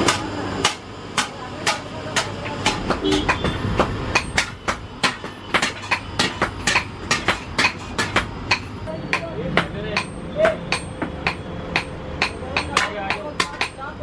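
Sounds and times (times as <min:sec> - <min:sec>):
hammer striking steel: 0:00.0 - 0:14.0.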